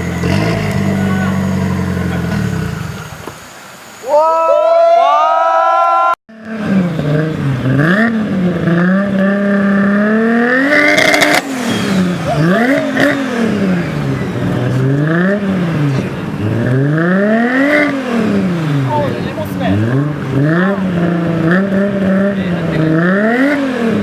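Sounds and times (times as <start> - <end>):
car engine revving loud exhaust: 0.0 - 3.2, 6.3 - 24.0.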